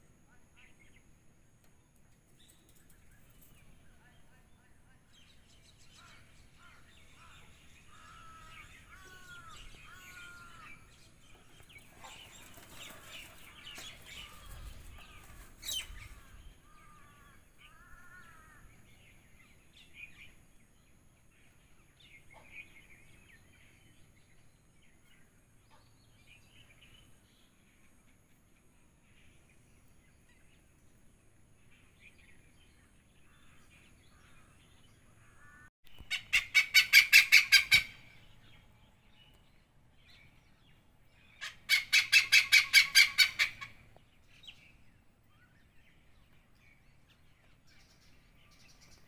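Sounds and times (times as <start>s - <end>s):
birds chirping: 0.2s - 49.0s.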